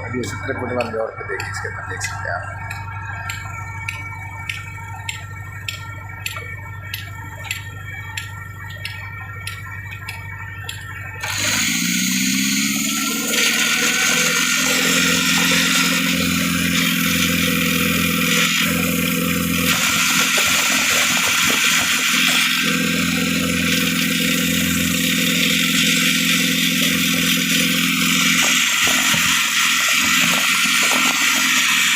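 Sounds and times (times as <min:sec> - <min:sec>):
engine hum with ticking: 0:00.0 - 0:31.9.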